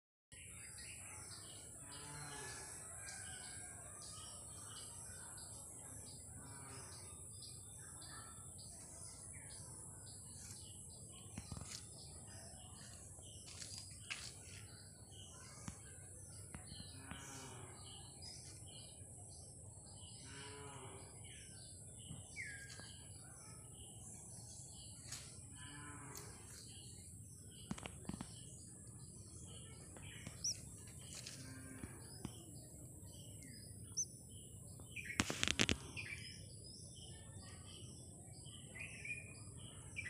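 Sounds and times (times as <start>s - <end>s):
birds chirping: 0.3s - 40.0s.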